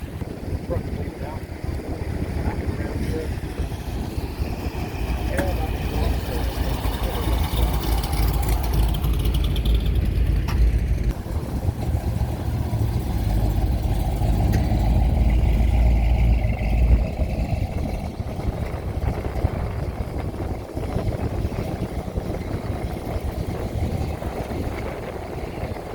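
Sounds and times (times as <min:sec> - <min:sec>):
car engine running: 0:00.0 - 0:25.9
heavy low rumble: 0:00.0 - 0:25.9
vehicles driving past: 0:00.0 - 0:25.9
wind buffeting microphone: 0:00.0 - 0:25.9.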